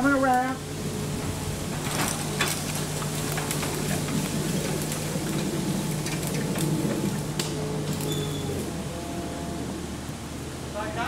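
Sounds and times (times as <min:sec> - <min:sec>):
ride-on lawnmower engine running: 0:00.0 - 0:10.9.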